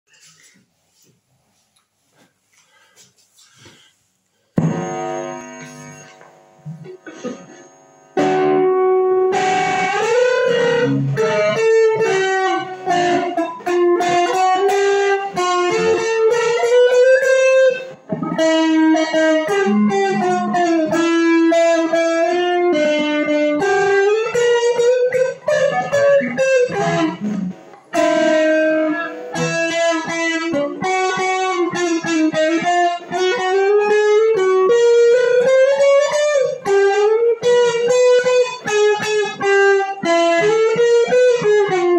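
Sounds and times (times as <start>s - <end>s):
electric guitar lead melody: 4.6s - 41.9s.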